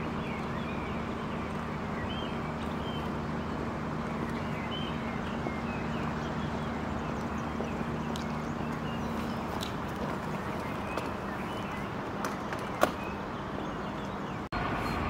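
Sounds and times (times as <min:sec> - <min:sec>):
birds chirping: 0:00.0 - 0:15.0
truck engines idling: 0:00.0 - 0:15.0.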